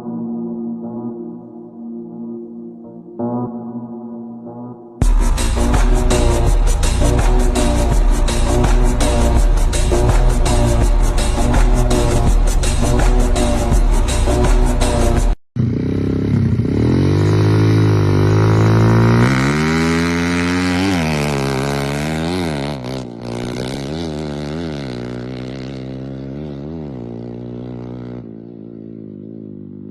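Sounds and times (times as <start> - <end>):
motocross bike engine revving: 5.0 - 29.9.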